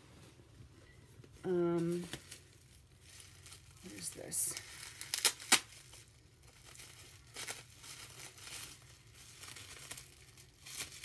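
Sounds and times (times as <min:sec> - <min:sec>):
plastic bag crinkling: 0:01.2 - 0:11.0.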